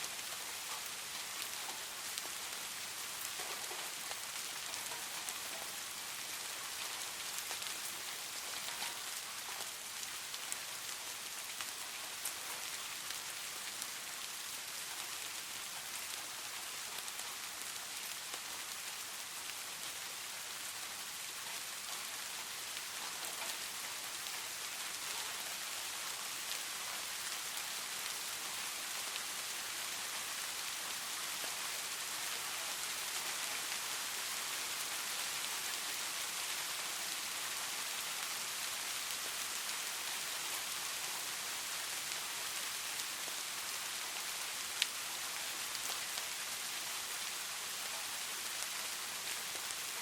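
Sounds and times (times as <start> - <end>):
steady rain patter: 0.0 - 50.0.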